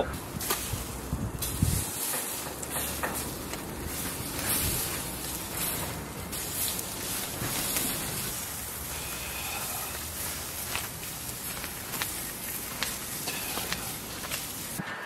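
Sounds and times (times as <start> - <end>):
wind noise: 0.0 - 14.8
kitchen scissors cutting: 0.3 - 14.8.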